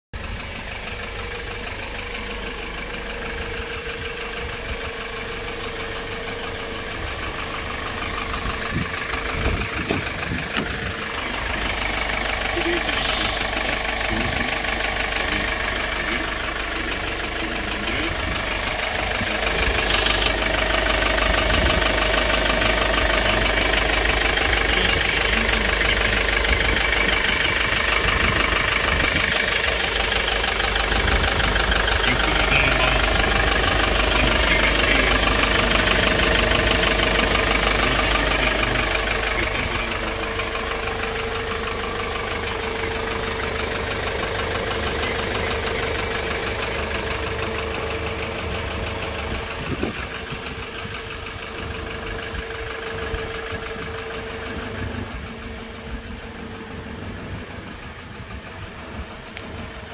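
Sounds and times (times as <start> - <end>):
diesel truck engine idling: 0.1 - 59.9.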